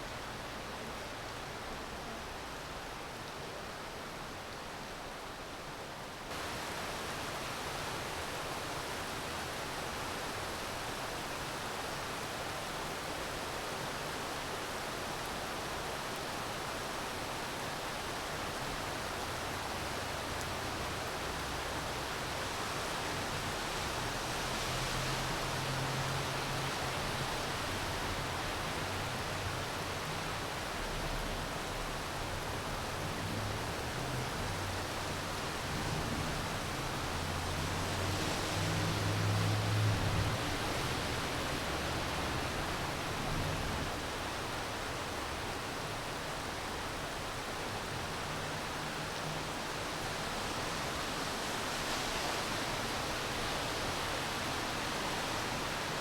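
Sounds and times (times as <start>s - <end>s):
rain falling: 6.3s - 56.0s.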